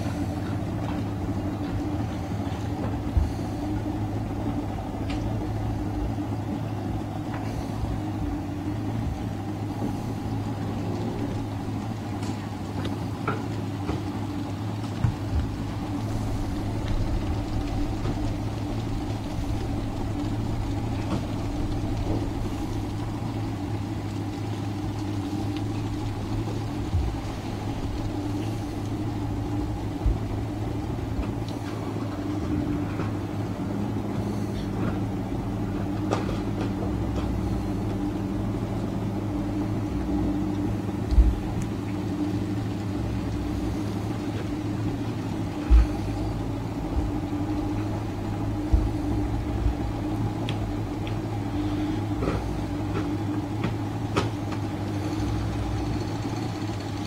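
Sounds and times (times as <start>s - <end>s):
boat engine idling: 0.0s - 57.0s
second steady hum: 0.0s - 57.0s.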